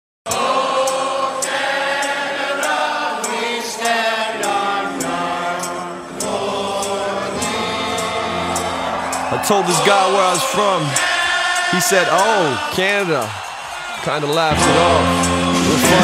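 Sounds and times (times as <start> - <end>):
sharp ticks: 0.3 - 15.4
choir singing held notes: 0.3 - 16.0.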